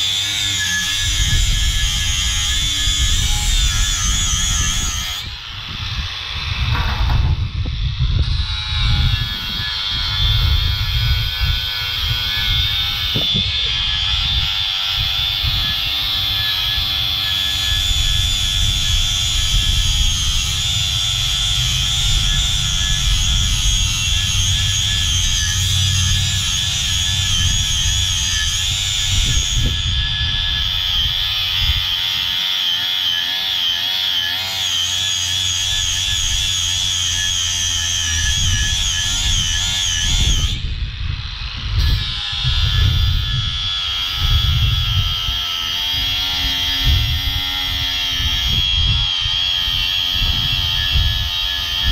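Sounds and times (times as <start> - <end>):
angle grinder grinding metal: 0.0 - 51.9.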